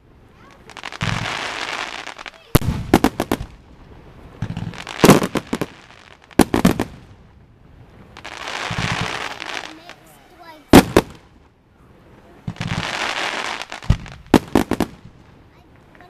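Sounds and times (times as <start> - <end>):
fireworks bursting with sharp bangs: 0.0 - 16.0
fireworks crackling hiss: 0.0 - 16.0.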